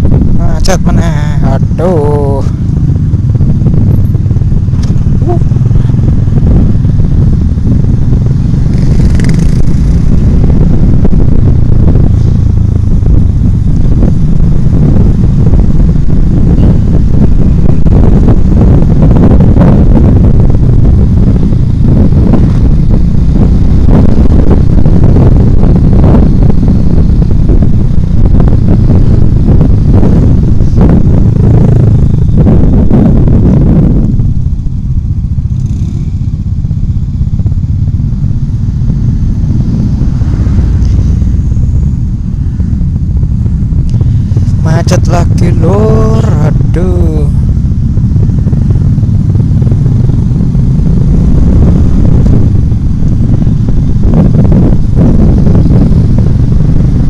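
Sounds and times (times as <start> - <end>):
motorcycle engine: 0.0 - 57.0
other motorcycles riding alongside: 0.0 - 57.0
wind buffeting microphone: 0.0 - 57.0.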